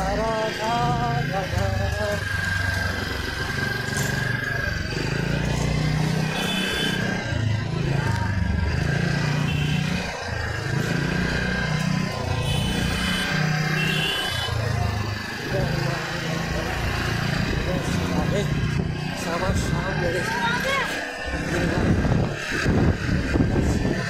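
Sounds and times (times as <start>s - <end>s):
motor scooter running: 0.0s - 24.0s
rushing road noise: 0.0s - 24.0s.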